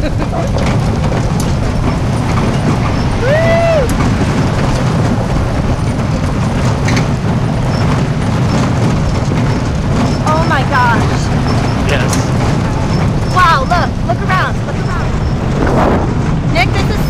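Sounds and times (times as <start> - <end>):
light rattles: 0.0 - 17.0
wheels rumbling over gravel: 0.0 - 17.0.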